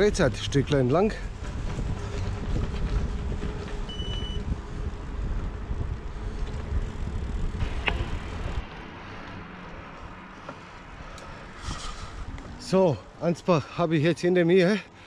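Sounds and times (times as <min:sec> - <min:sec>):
bicycle tyre noise: 0:00.0 - 0:13.0
wind buffeting microphone: 0:00.0 - 0:13.2.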